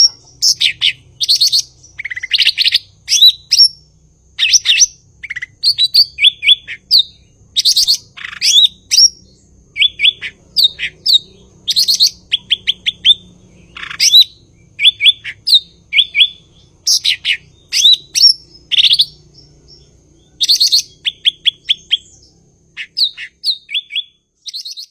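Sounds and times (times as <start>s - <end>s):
bird singing chirped notes: 0.0s - 24.9s.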